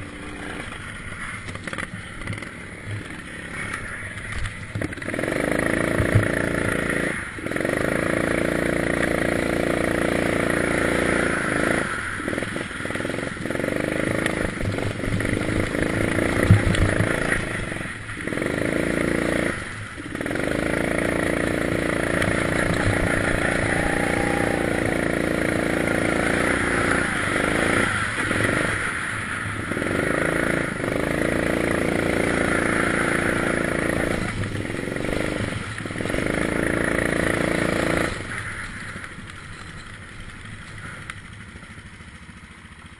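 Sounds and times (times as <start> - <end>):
go-kart engine revving: 0.0 - 42.9.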